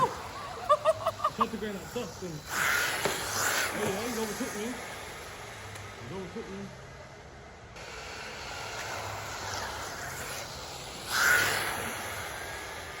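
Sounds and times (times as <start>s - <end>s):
rc car motors whining: 0.0s - 6.9s, 7.6s - 13.0s
tyre and wind noise hiss: 0.0s - 7.1s, 7.8s - 13.0s.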